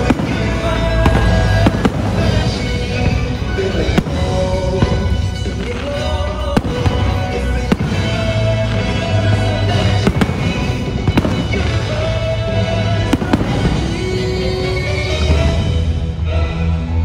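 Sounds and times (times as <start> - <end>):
fireworks bursting with sharp bangs: 0.0 - 16.2
music playing: 0.0 - 17.0.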